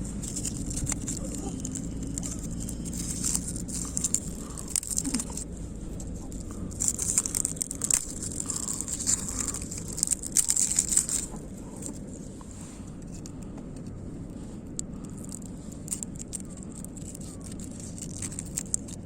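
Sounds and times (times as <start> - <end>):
gas burner rumble: 0.0 - 19.0.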